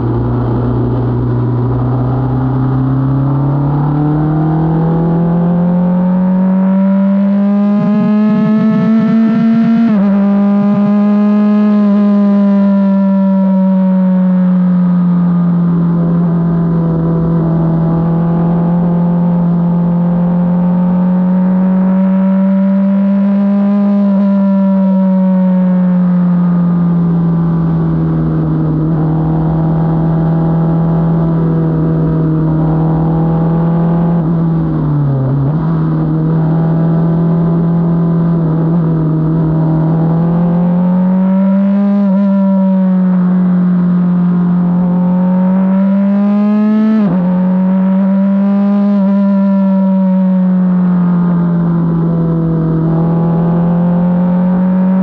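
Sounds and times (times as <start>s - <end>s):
race car engine revving: 0.0s - 14.6s, 15.4s - 55.0s.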